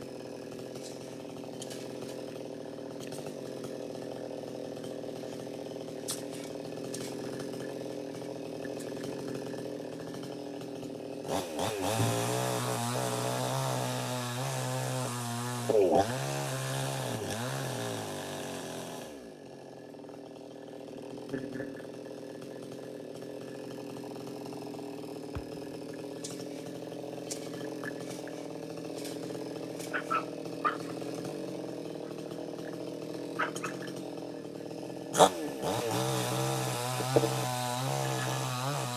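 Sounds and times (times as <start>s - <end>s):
chainsaw engine idling and revving: 0.0s - 38.9s.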